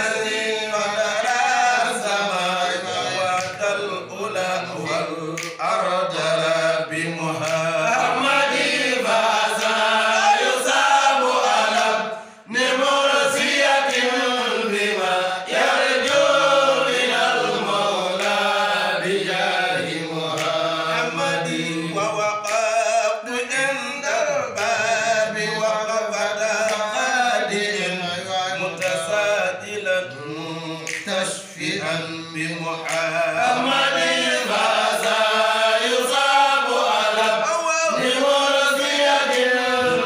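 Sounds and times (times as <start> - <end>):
men chanting a devotional song: 0.0 - 40.0.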